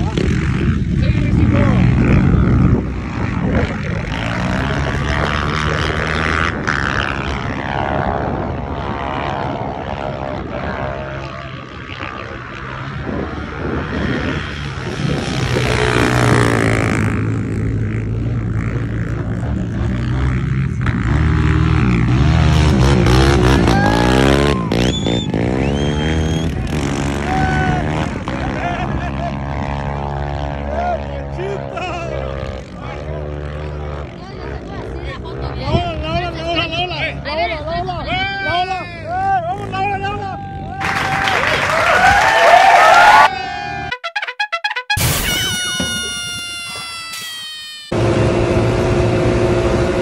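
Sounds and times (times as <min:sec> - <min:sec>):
atv engines revving: 0:00.0 - 0:43.9, 0:47.9 - 0:50.0.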